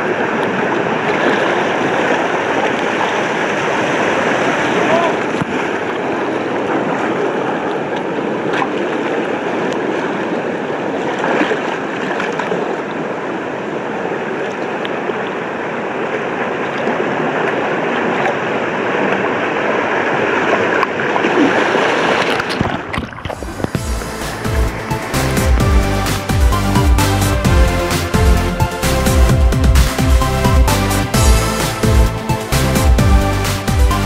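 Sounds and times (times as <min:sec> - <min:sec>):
rushing churning water: 0:00.0 - 0:34.0.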